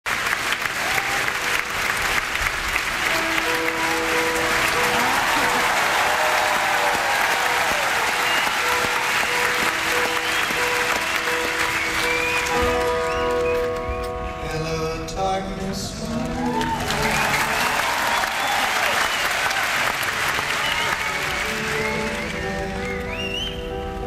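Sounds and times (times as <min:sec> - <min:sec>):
stadium crowd applauding and cheering: 0:00.0 - 0:14.5, 0:15.8 - 0:24.0.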